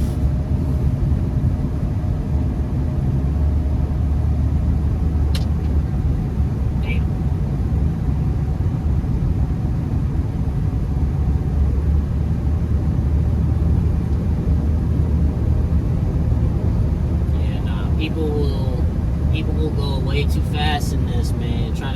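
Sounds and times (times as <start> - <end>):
car interior driving rumble: 0.0 - 8.5, 11.5 - 21.9.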